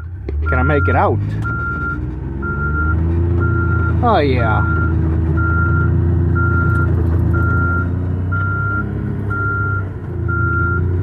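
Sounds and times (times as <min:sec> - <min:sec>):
vehicle backup alarm beeping: 0:00.0 - 0:11.0
vehicle engine running: 0:00.0 - 0:11.0.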